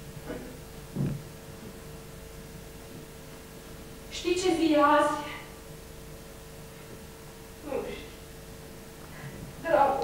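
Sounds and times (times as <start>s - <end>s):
recording hiss and hum: 0.0s - 10.0s.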